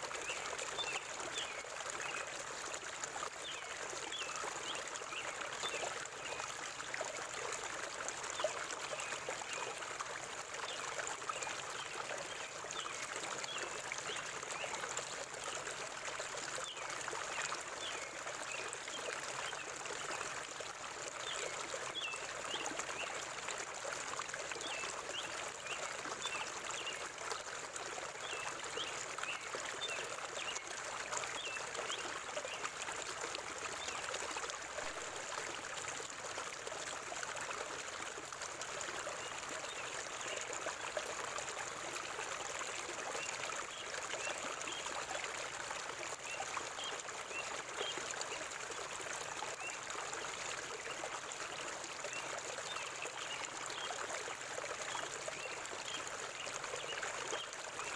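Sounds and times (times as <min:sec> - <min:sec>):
small water splashes: 0:00.0 - 0:57.9.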